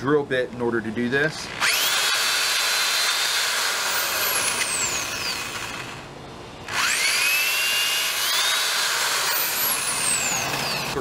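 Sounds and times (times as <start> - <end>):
power drill boring into wood: 1.5 - 6.0, 6.7 - 11.0.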